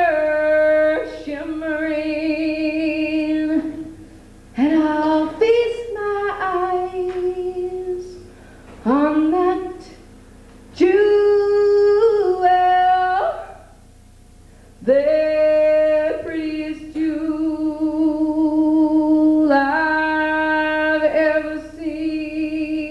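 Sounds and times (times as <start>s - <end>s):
woman singing with vibrato: 0.0s - 10.1s, 10.7s - 13.8s, 14.8s - 22.9s.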